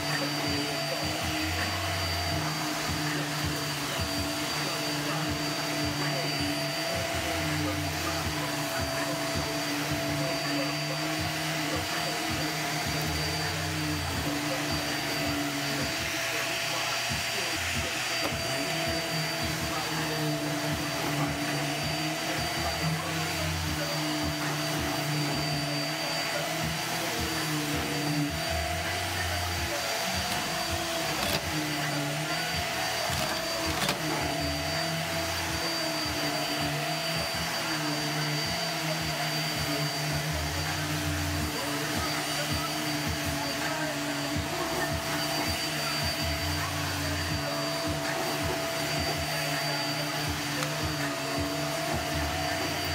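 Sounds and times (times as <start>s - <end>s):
vacuum cleaner running on carpet: 0.0s - 52.9s.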